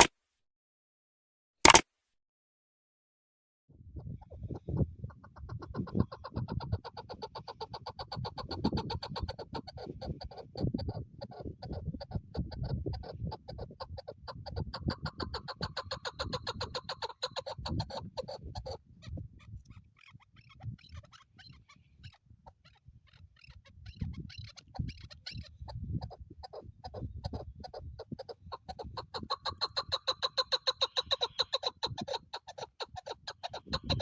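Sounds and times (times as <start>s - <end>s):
partridge clucking call: 4.0s - 34.0s.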